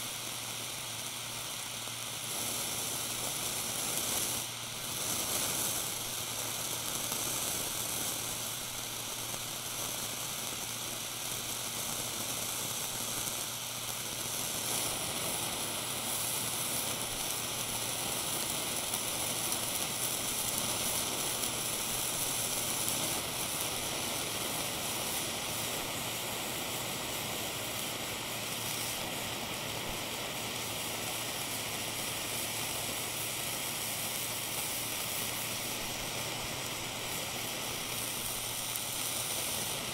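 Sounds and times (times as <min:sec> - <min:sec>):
blowtorch flame hissing: 0:00.0 - 0:39.9.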